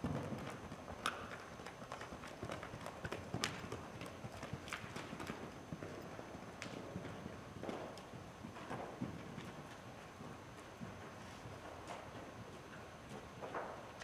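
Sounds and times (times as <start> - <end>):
pony hoofbeats on soft dirt: 0.0 - 14.0.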